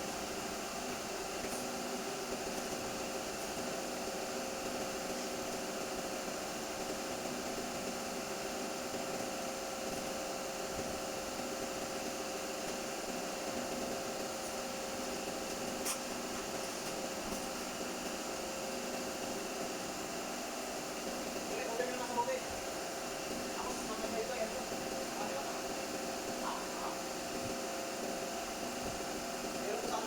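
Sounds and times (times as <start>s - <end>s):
machine hum with hiss: 0.0s - 30.0s.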